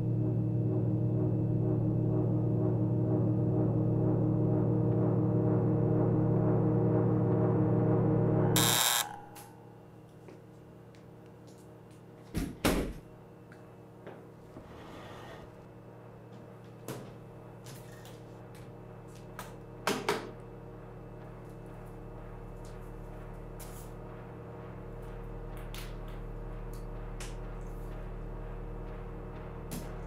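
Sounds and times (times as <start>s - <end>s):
low hum: 0.0s - 12.2s, 13.0s - 30.0s.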